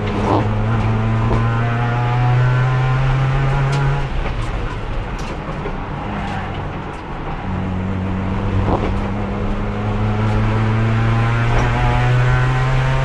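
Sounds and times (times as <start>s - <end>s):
racing car engine: 0.0s - 13.0s.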